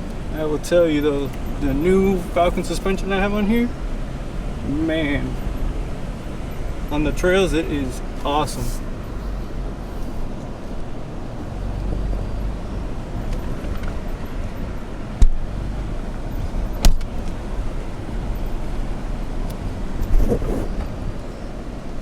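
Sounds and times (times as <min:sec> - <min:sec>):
low engine and road rumble: 0:00.0 - 0:22.0.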